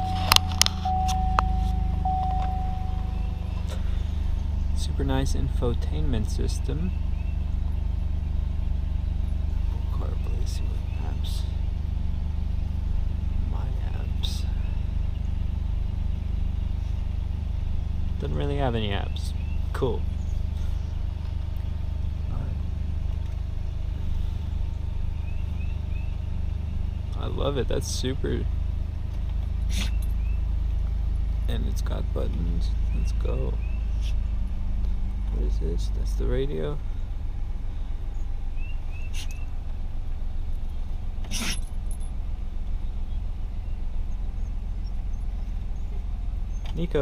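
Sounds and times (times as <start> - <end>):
truck engine idling: 0.0 - 47.0.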